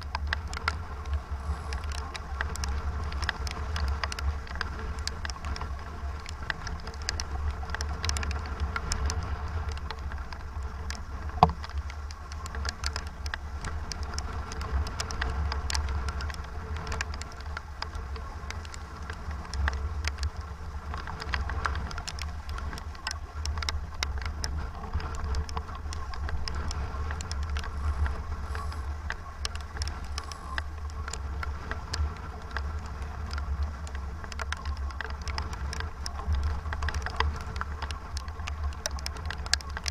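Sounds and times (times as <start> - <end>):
rain tapping on microphone: 0.0 - 39.9
wind buffeting microphone: 0.0 - 39.9.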